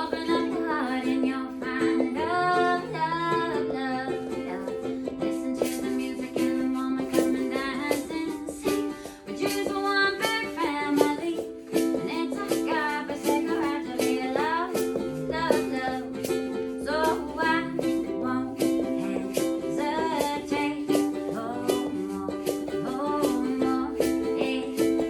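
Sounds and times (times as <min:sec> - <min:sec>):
person singing: 0:00.0 - 0:25.0
strummed stringed instrument: 0:00.0 - 0:25.0.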